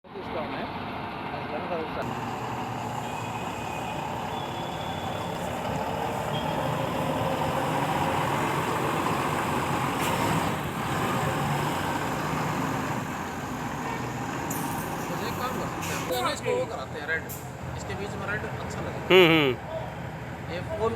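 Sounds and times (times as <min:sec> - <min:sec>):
diesel truck engine running: 0:00.2 - 0:18.8.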